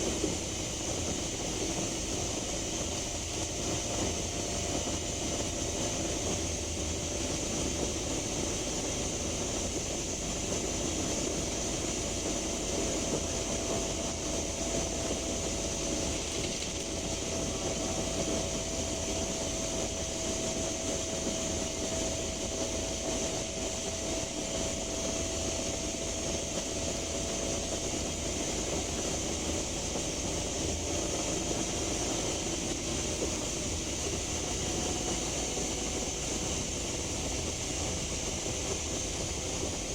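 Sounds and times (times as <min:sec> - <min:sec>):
bus engine running: 0:00.0 - 0:39.9
faint steady whine: 0:00.0 - 0:39.9
road rumble: 0:00.0 - 0:39.9.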